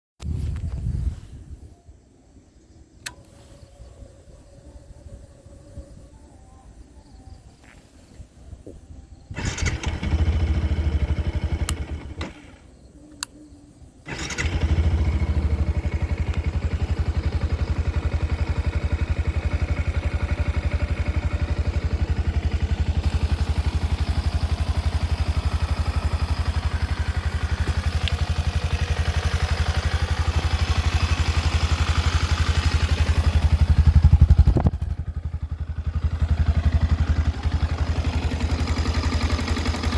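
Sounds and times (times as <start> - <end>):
motorcycle engine starting and idling: 2.8 - 6.1, 8.8 - 39.9.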